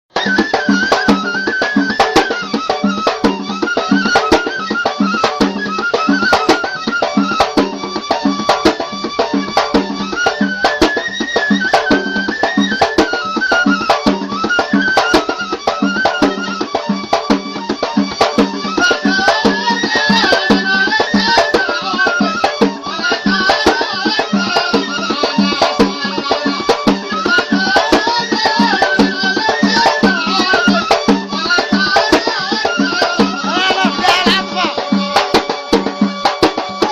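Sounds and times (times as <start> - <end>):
fast drumbeat: 0.1 - 36.9
reed pipe melody: 0.1 - 36.9.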